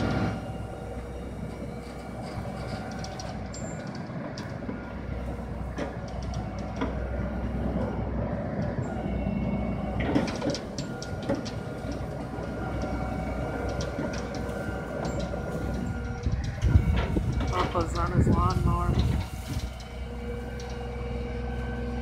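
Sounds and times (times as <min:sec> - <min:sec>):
diesel truck engine and hydraulics: 0:00.0 - 0:22.0.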